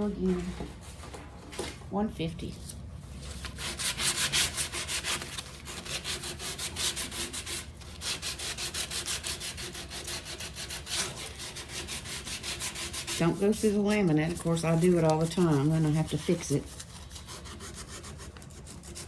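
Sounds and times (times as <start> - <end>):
sandpaper scratching on wood: 3.6 - 19.0.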